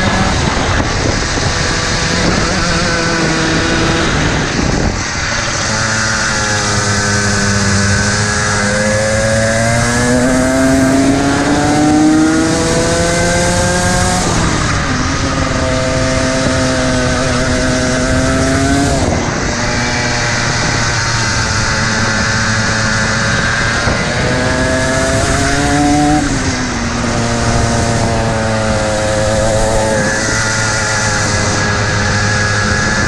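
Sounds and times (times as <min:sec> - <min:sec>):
kart engine at racing speed: 0:00.0 - 0:33.0
wind on microphone: 0:00.0 - 0:33.0.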